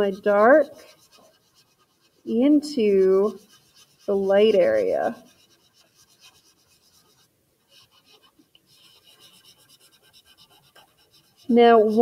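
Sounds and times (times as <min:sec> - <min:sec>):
paper towel rubbing on paper: 0:00.0 - 0:12.0.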